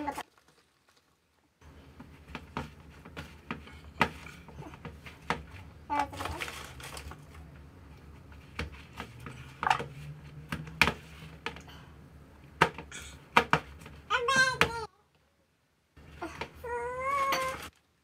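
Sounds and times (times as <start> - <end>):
hands kneading dough: 0.0 - 14.8.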